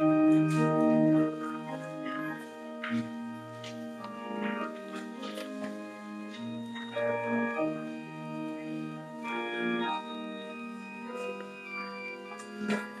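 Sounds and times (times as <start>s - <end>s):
church organ playing chords: 0.0s - 13.0s.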